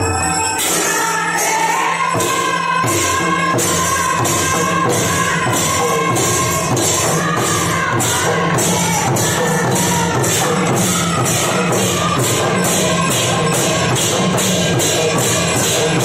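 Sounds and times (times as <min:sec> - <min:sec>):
group singing: 0:00.0 - 0:14.4
brass hand cymbals clashing: 0:00.0 - 0:16.0
barrel drum: 0:02.2 - 0:16.0.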